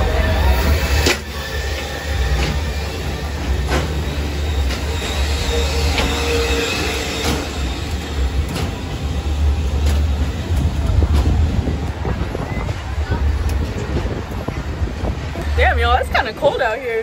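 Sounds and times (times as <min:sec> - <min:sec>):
low rumble: 0:00.0 - 0:16.1.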